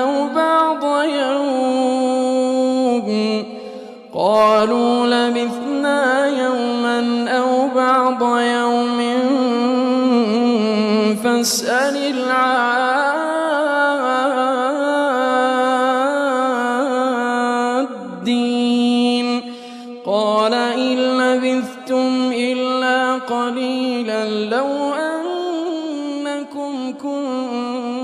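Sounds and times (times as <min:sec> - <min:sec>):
man chanting melodically: 0:00.0 - 0:28.0.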